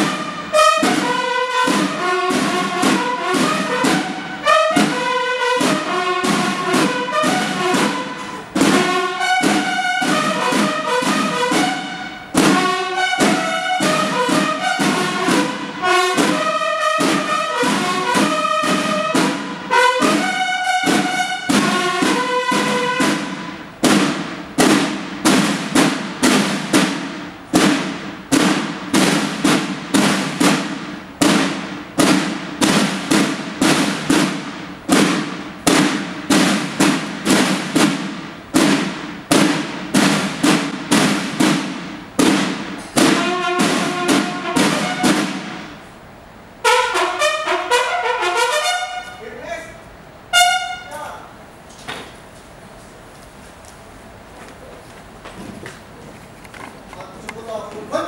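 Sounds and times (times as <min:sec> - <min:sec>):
bugles playing march: 0:00.0 - 0:51.4
drums beating steady cadence: 0:00.0 - 0:58.0.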